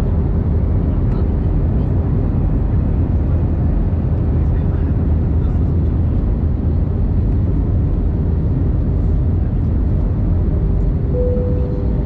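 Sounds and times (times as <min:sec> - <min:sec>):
deep rumble of engines and airflow: 0:00.0 - 0:12.0.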